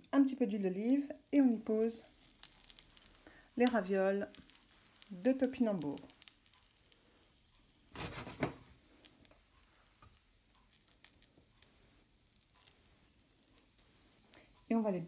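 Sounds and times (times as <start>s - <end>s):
ravioli sizzling in frying pan: 0.0s - 15.0s.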